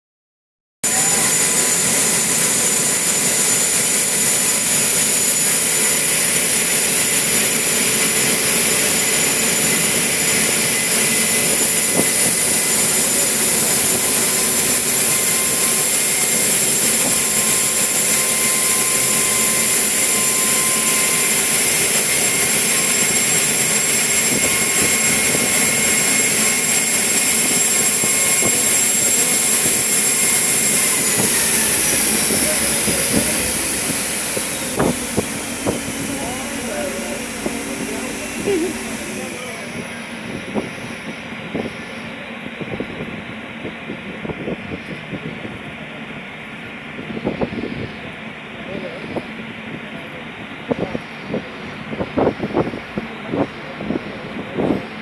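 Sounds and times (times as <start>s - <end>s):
thin high whine: 0.8s - 45.2s
ferry engines hissing: 0.8s - 55.0s.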